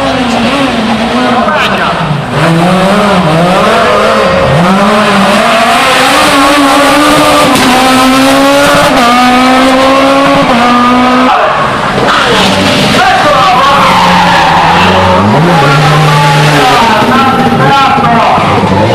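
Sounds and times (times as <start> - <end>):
rally car engine at high revs: 0.0 - 18.9.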